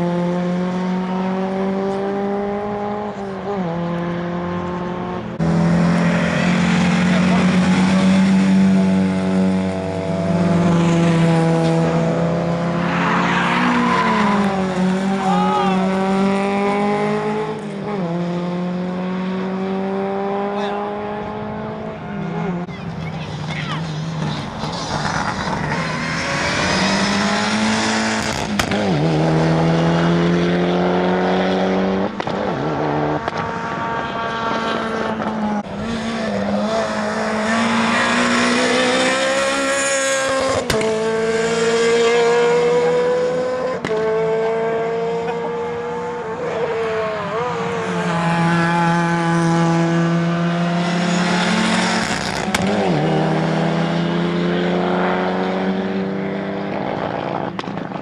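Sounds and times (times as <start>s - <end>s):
rally car engines at full throttle: 0.0s - 58.0s.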